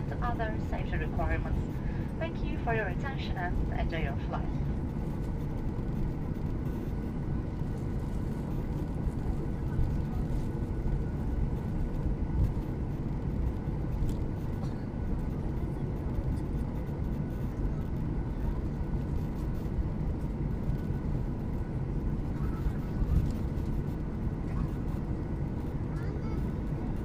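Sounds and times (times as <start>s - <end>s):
airplane cabin low rumble: 0.0s - 27.0s
faint high steady hum: 0.0s - 27.0s.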